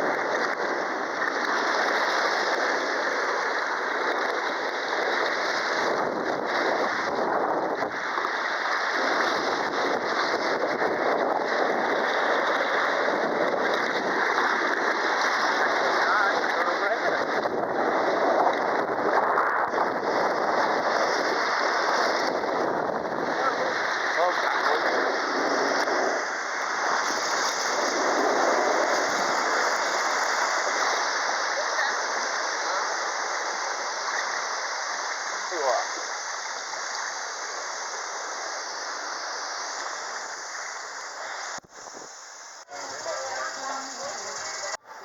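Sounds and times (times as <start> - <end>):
rushing splashing water: 0.0 - 44.8.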